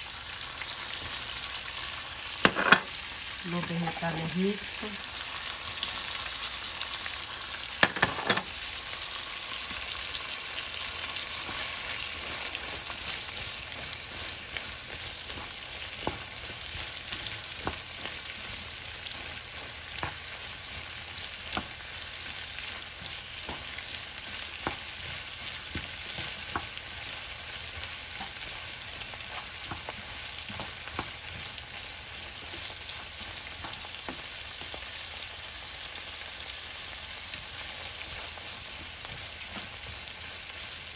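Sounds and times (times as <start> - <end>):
vegetables and egg sizzling in a pan: 0.0 - 40.9.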